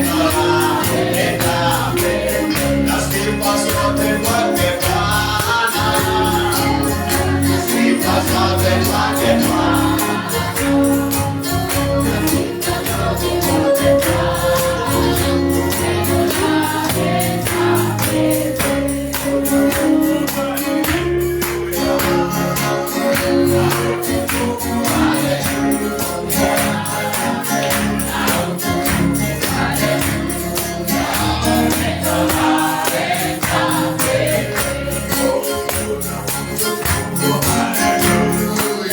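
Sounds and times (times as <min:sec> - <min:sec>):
fast percussion beat: 0:00.0 - 0:38.9
group singing gospel: 0:00.0 - 0:38.9
tambourine: 0:00.0 - 0:38.9.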